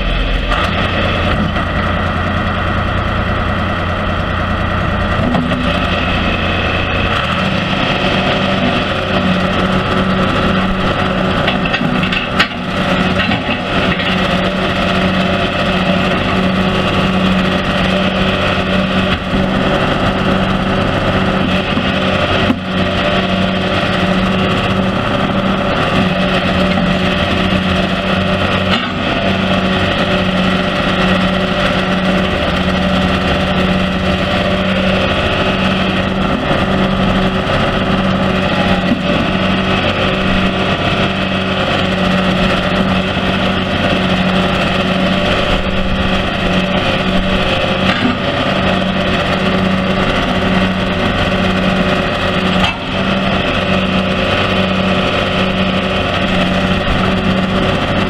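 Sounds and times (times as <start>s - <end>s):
steady low hum: 0.0s - 53.6s
backhoe hydraulics digging: 0.0s - 58.0s
diesel engine running steadily: 0.0s - 58.0s.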